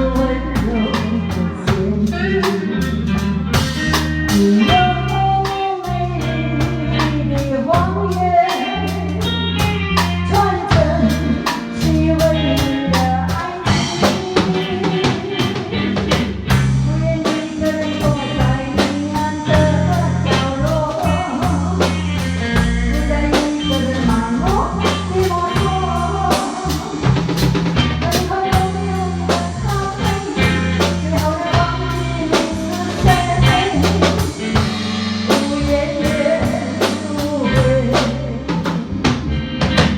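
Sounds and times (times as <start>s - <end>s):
bass guitar line: 0.0s - 39.9s
drum kit beat: 0.0s - 39.9s.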